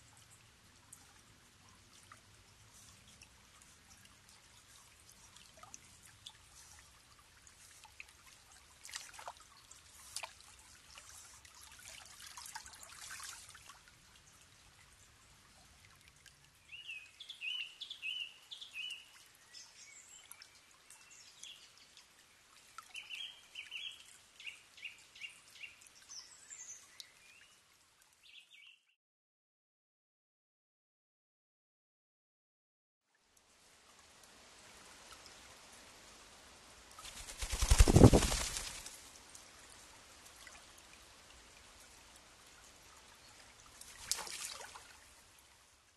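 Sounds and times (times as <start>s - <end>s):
water trickling and dripping: 0.0s - 28.8s, 33.1s - 45.9s.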